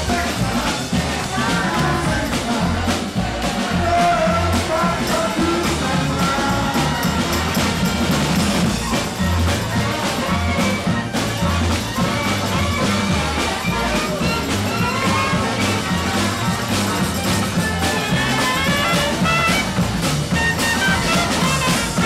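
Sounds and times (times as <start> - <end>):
drum kit beat: 0.0 - 22.0
parade band playing: 0.0 - 22.0.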